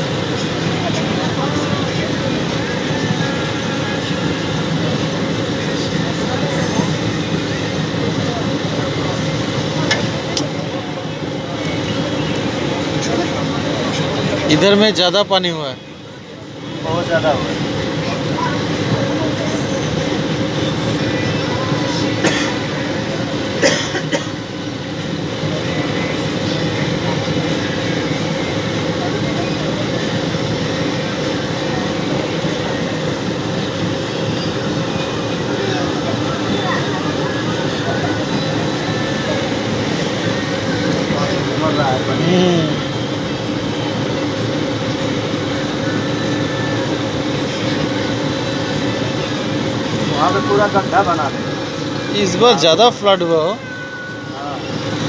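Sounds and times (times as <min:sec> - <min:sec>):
moving vehicle running noise: 0:00.0 - 0:55.0.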